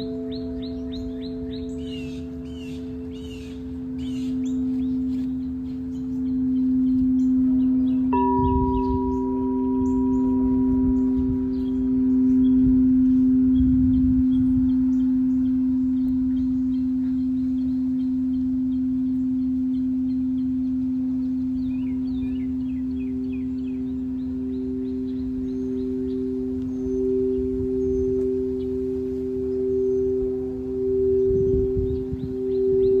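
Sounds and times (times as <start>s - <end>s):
singing bowls ringing: 0.0s - 33.0s
small birds chirping: 0.0s - 33.0s.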